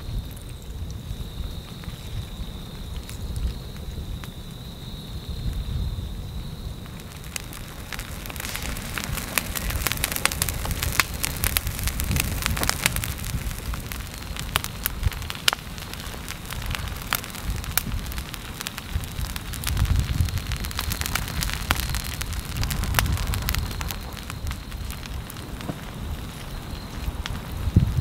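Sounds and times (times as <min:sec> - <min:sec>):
grass burning with crackling: 0:00.0 - 0:28.0
low rumbling: 0:05.1 - 0:28.0.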